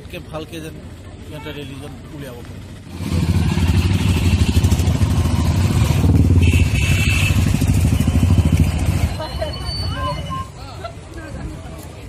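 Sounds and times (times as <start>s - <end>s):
motorcycles riding past: 1.7s - 12.0s.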